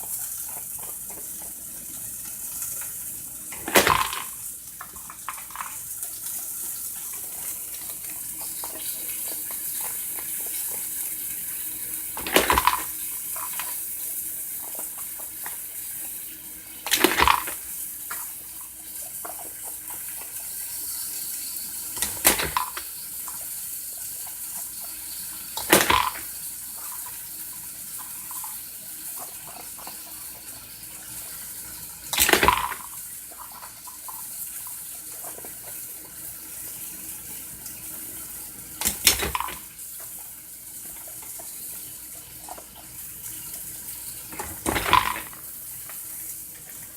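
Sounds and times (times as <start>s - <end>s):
water valve hiss: 0.0s - 46.9s.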